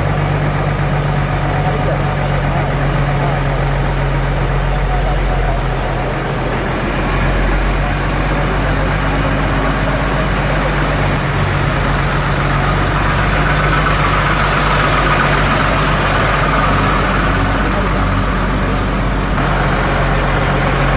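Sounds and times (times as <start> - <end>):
vehicle engine running: 0.0 - 20.9.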